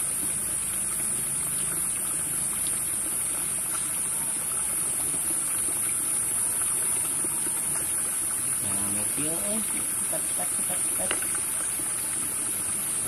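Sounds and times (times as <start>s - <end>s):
insects droning in chorus: 0.0s - 13.0s.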